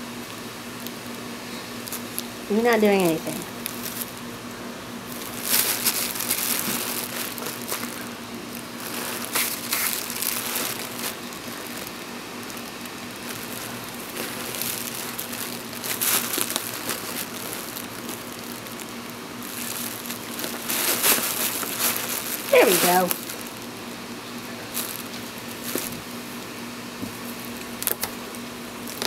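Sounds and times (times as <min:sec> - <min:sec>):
bubble wrap crinkling: 0:00.1 - 0:29.0.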